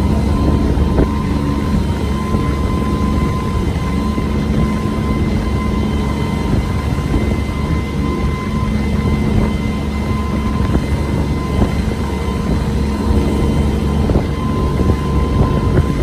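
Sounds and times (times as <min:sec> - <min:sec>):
boat engine rumbling: 0:00.0 - 0:16.0
thin steady whine: 0:00.0 - 0:16.0.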